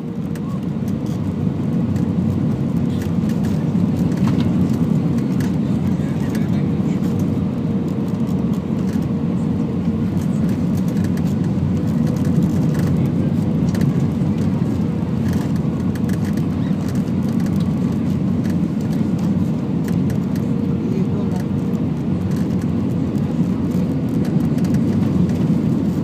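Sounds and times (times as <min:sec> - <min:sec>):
airflow and engine noise: 0:00.0 - 0:26.0.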